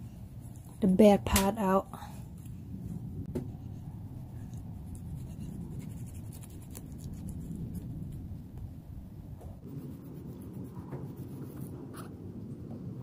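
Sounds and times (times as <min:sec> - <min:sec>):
low rumble: 0:01.9 - 0:13.0.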